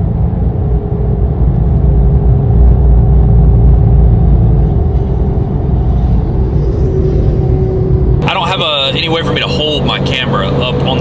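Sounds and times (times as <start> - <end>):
road noise low rumble: 0.0 - 11.0
tire hum: 0.0 - 11.0.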